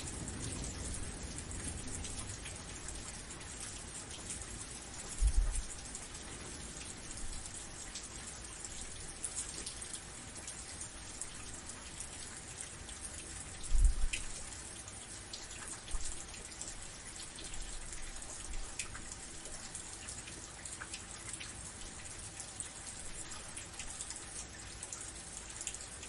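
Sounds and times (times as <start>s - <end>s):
steady rain pattering: 0.0s - 26.0s.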